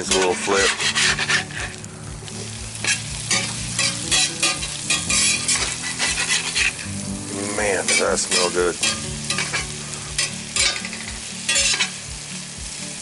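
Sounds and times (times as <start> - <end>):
spatula scraping skillet: 0.0 - 12.1
frying sizzle: 0.0 - 13.0.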